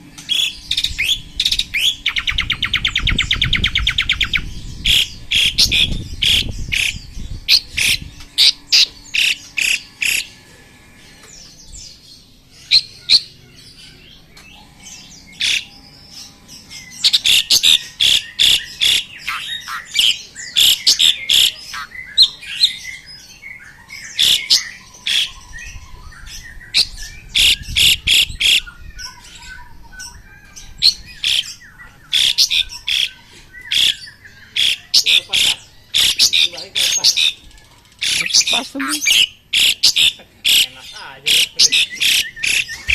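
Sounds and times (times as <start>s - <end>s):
birds calling and singing: 0.0s - 42.9s.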